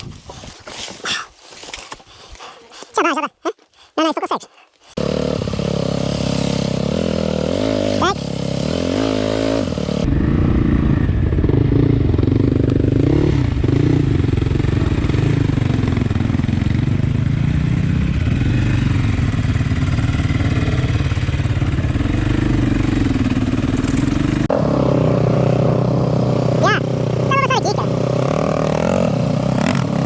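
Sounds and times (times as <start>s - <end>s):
dirt bike engine revving: 4.9s - 30.0s.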